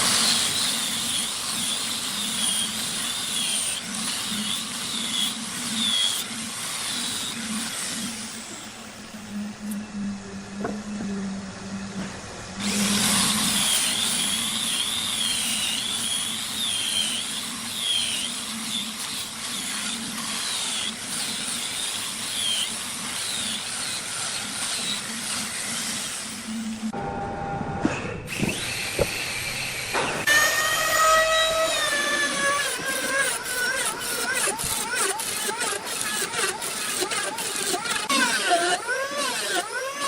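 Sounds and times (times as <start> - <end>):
power tool cutting wood whine: 0.0 - 27.0, 28.0 - 40.0
power tool humming: 0.0 - 40.0.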